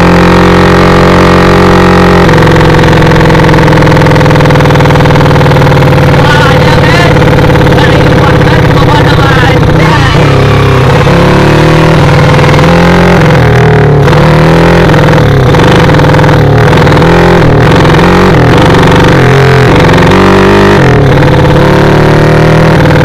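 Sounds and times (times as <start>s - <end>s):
motorcycle engine running loud: 0.0s - 23.0s.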